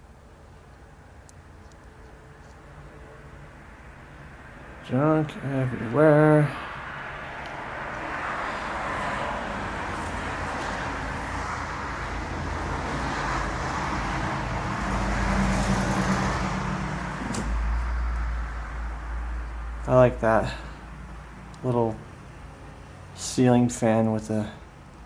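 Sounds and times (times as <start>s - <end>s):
road traffic noise: 0.0s - 25.0s
vehicle low rumble: 0.0s - 25.0s.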